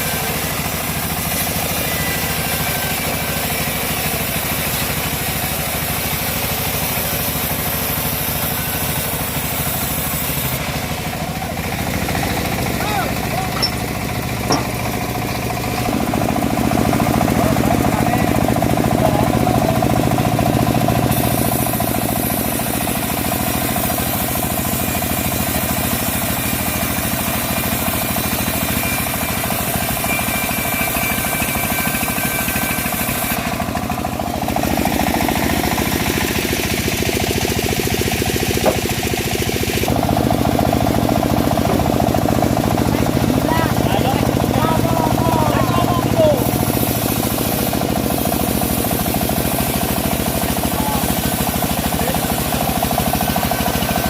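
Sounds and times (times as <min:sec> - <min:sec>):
engine-powered bandsaw sawing log: 0:00.0 - 0:54.0.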